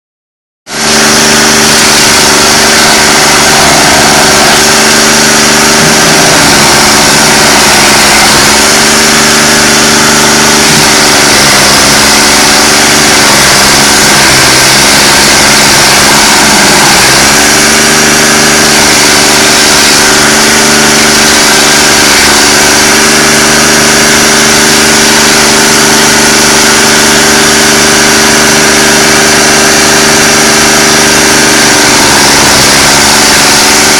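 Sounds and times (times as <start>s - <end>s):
stump grinder engine running: 0.7s - 33.9s.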